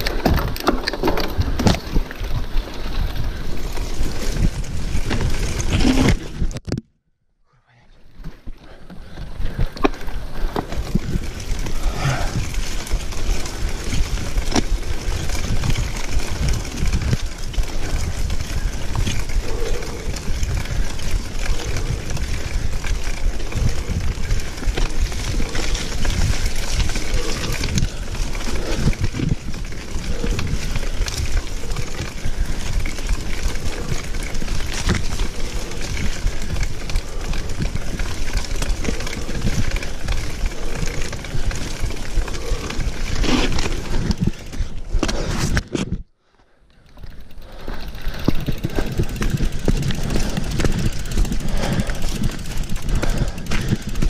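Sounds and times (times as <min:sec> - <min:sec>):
bike rattling over bumps: 0:00.0 - 0:06.6, 0:08.2 - 0:46.0, 0:46.7 - 0:54.0
bike tyres rolling on dirt: 0:00.0 - 0:06.6, 0:08.1 - 0:54.0
wind rumble on microphone: 0:00.0 - 0:06.7, 0:09.1 - 0:46.1, 0:47.5 - 0:54.0.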